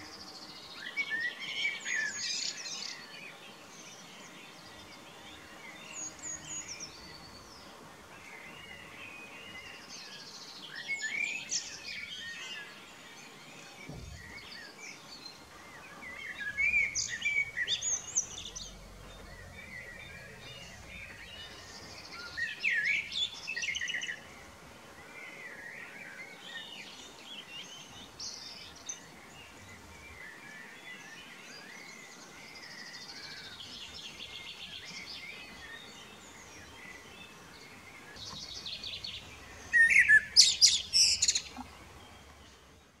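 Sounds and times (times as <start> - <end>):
blackbird singing: 0.0 - 24.4, 25.0 - 42.6
quieter birdsong: 0.0 - 43.0.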